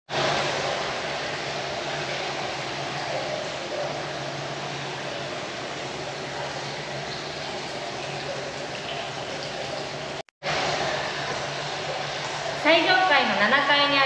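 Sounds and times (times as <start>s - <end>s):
water rushing into a bath: 0.1s - 14.0s.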